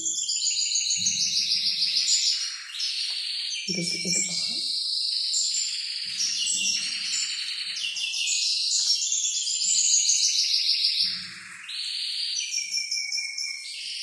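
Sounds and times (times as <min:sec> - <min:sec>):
songbird trilling and chirping: 0:00.0 - 0:14.0.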